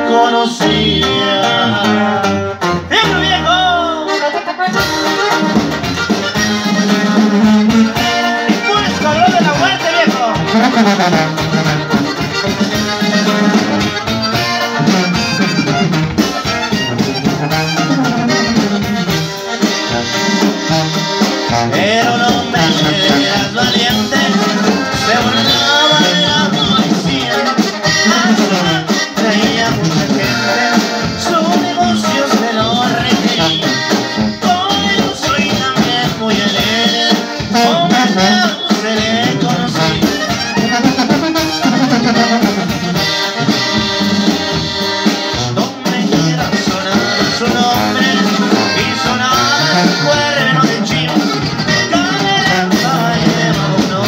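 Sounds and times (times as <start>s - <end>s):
accordion melody: 0.0s - 54.0s
drum kit: 0.0s - 54.0s
guitars playing: 0.0s - 54.0s
sousaphone bass: 0.0s - 54.0s.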